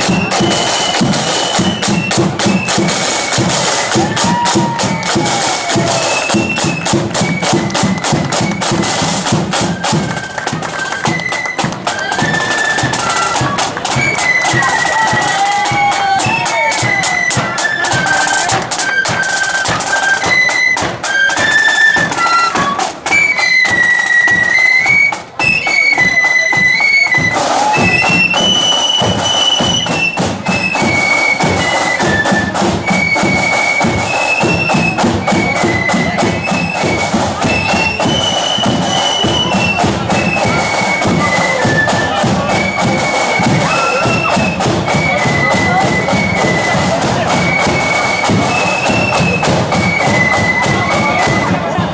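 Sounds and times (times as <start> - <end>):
flute melody: 0.0 - 51.9
side drums beating: 0.0 - 51.9.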